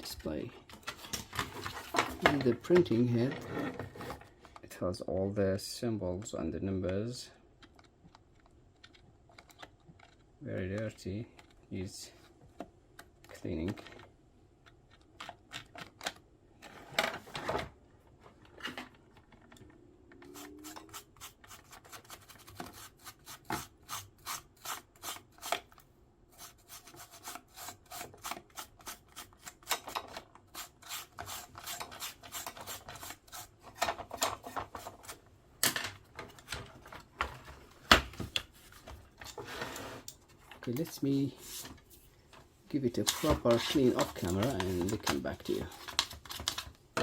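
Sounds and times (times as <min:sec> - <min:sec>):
rubbing and scraping with clicks: 0:00.0 - 0:05.3, 0:06.0 - 0:47.0.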